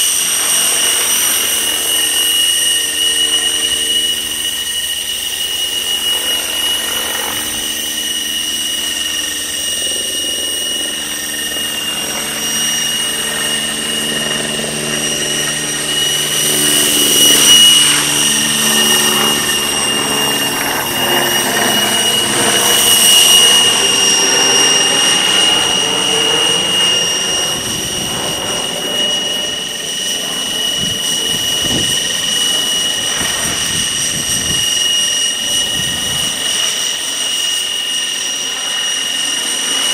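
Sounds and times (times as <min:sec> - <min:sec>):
rc helicopter engine whine: 0:00.0 - 0:39.9.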